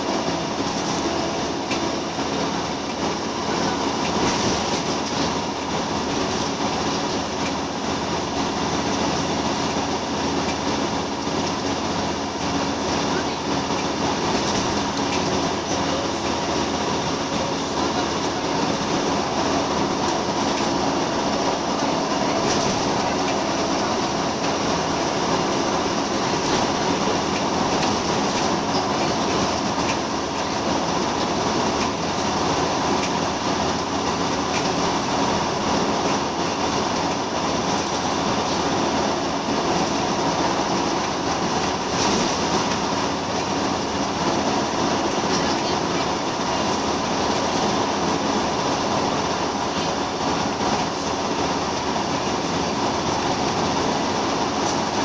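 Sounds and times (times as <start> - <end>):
bus diesel engine running: 0.0 - 55.0
tyre and road noise: 0.0 - 55.0.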